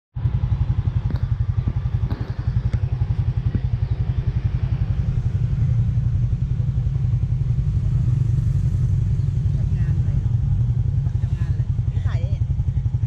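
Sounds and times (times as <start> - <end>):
small engine idling: 0.2 - 13.0.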